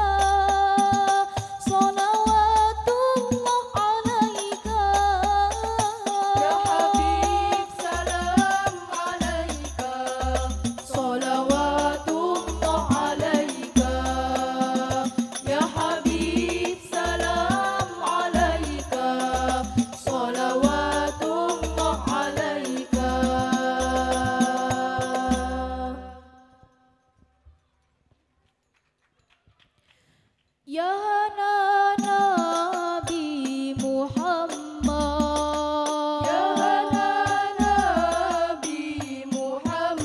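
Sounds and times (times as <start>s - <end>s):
women singing together: 0.0s - 26.6s, 30.7s - 40.0s.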